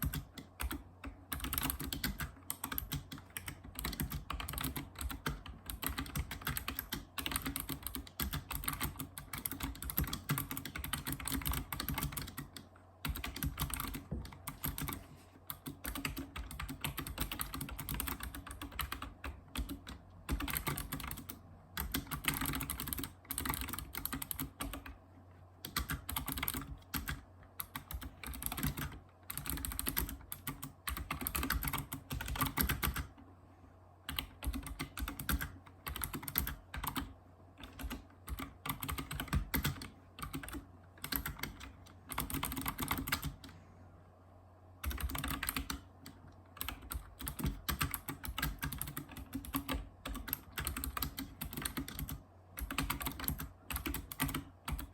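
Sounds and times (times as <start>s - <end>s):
keyboard keys clicking: 0.0s - 25.0s, 25.6s - 33.1s, 34.1s - 43.5s, 44.8s - 54.9s.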